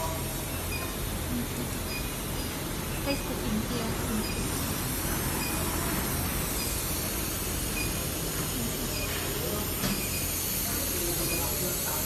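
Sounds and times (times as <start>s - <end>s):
machinery hiss and hum: 0.0s - 12.0s.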